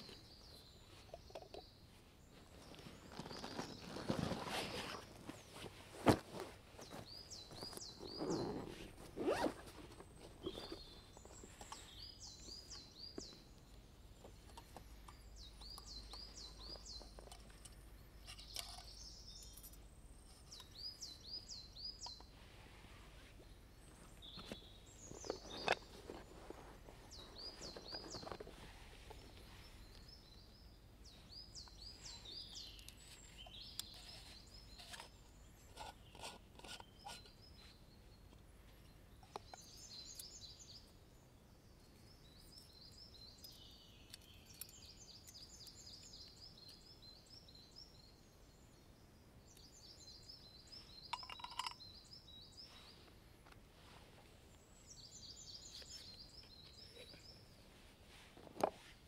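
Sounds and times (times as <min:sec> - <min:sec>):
faint songbirds trilling: 0:06.8 - 0:22.5, 0:23.2 - 0:58.9.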